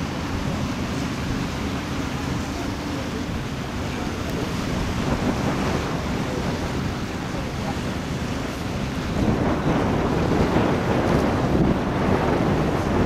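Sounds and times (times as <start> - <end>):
sea water rushing: 0.0 - 13.0
wind buffeting microphone: 0.0 - 13.0.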